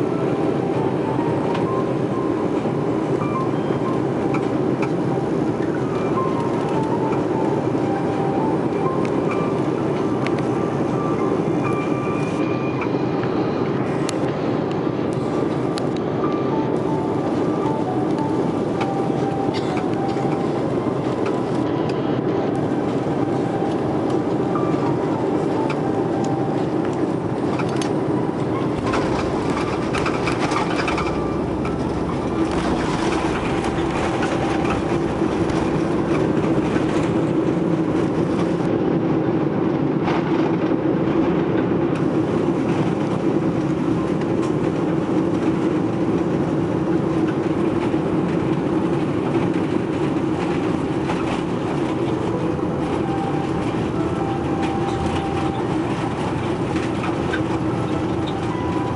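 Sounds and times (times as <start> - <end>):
aircraft braking roar: 0.0 - 58.9
aircraft engine and airflow noise: 0.0 - 58.9
wheels rumbling on runway: 0.0 - 58.9.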